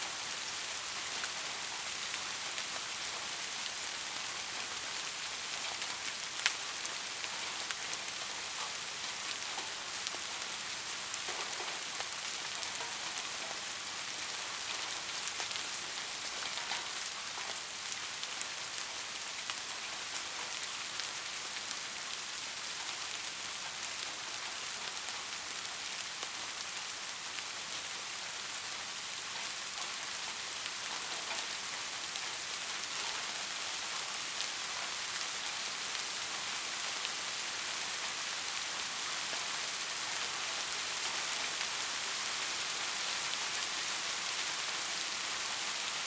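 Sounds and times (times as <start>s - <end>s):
white noise hiss: 0.0s - 46.0s.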